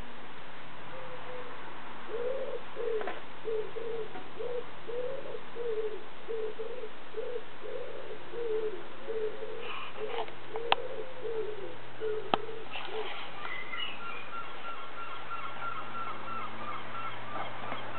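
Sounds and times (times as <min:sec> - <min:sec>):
bird cooing notes: 0:00.9 - 0:17.9.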